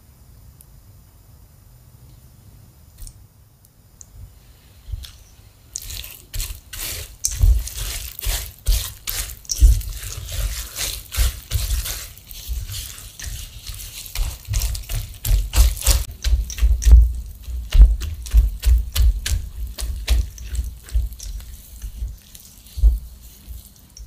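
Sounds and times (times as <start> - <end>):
spatula squelching sticky mix: 4.3 - 24.0.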